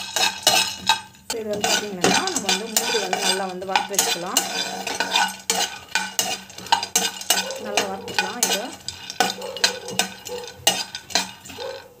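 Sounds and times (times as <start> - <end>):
spatula scraping nuts in pan: 0.0 - 12.0.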